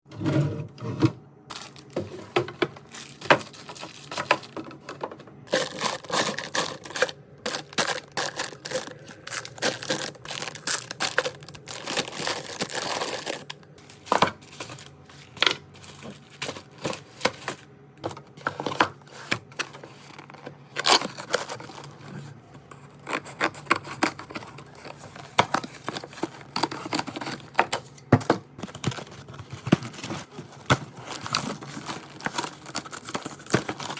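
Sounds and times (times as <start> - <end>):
packaging crinkling and tearing: 1.5 - 22.2, 22.9 - 33.9.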